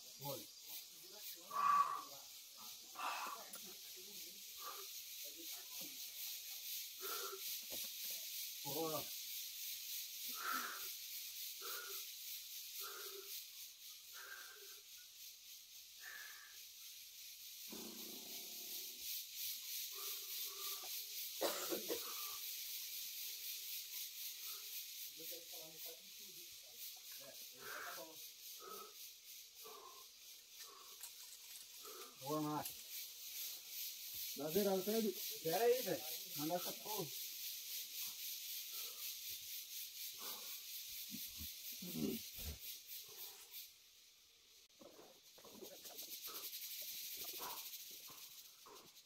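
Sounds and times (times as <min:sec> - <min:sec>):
insects buzzing drone: 0:00.0 - 0:49.0
steady high hiss: 0:00.0 - 0:49.0.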